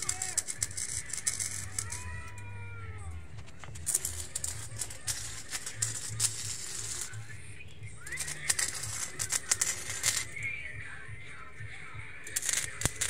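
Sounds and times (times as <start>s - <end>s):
welding arc crackling: 0.0s - 10.7s, 12.2s - 13.0s.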